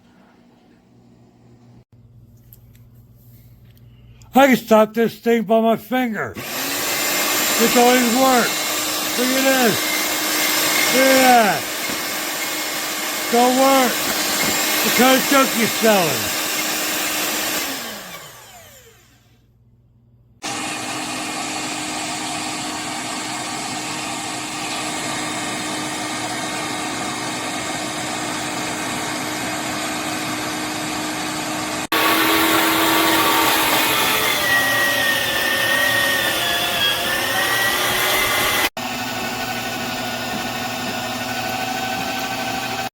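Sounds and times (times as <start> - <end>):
meat grinder motor humming: 6.4 - 19.2, 20.4 - 42.9.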